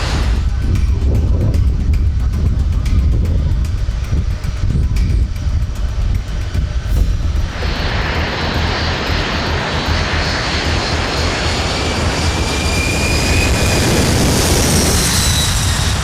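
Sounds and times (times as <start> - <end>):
jet engines roaring and whining: 0.0 - 16.0.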